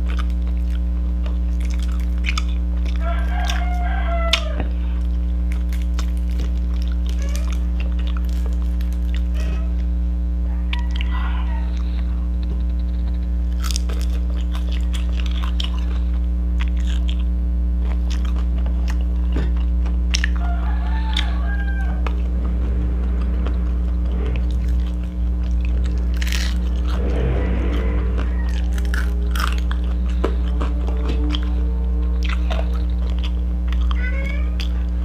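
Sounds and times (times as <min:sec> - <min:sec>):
chewing and crunching fish: 0:00.0 - 0:09.9, 0:10.6 - 0:23.8, 0:24.4 - 0:27.0, 0:28.2 - 0:35.0
low electrical hum: 0:00.0 - 0:35.0.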